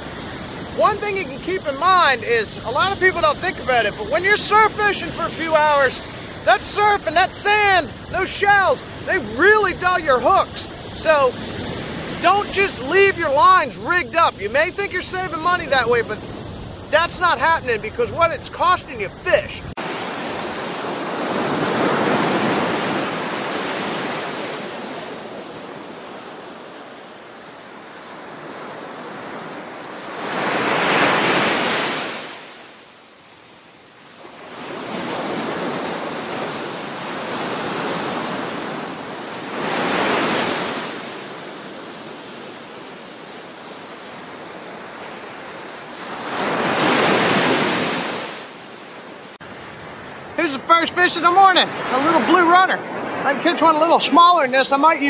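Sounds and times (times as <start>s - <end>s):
ocean waves crashing on beach: 0.0s - 55.0s.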